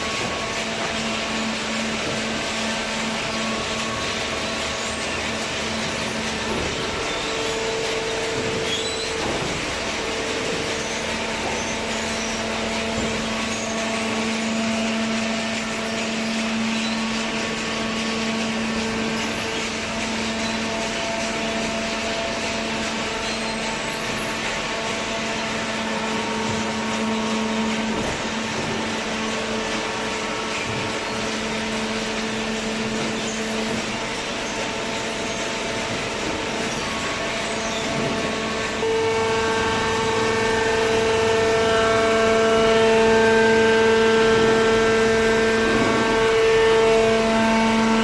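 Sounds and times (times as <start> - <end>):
industrial machinery humming: 0.0 - 48.0.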